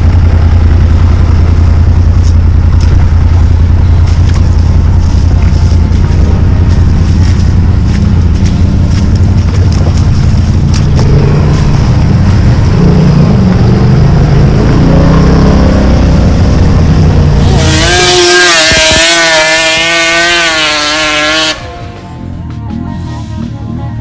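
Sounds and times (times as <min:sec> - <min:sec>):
wind noise on microphone: 0:00.0 - 0:20.5
off-road vehicle engine running hard: 0:00.0 - 0:24.0.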